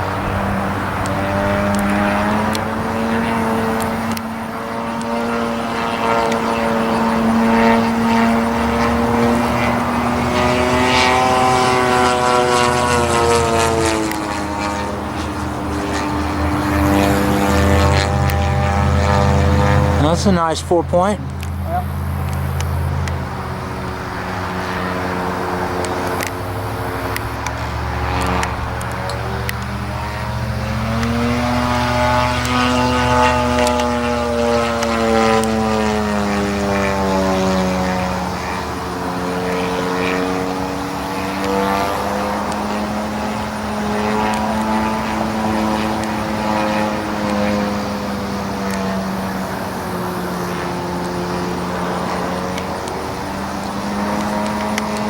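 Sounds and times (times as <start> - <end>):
model airplane engine and propeller: 0.0 - 55.0.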